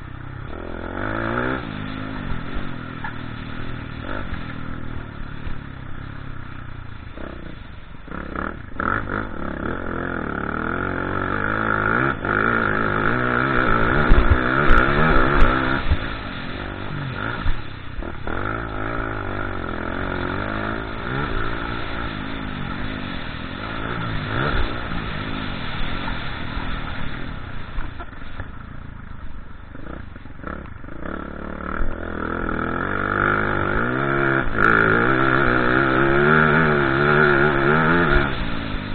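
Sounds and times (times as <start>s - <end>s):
motocross motorcycle engine revving: 0.0s - 38.9s.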